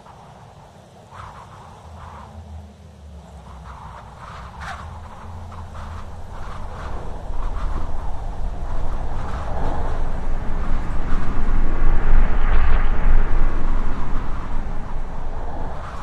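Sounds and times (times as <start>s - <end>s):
wind rushing and buffeting: 0.0s - 16.0s.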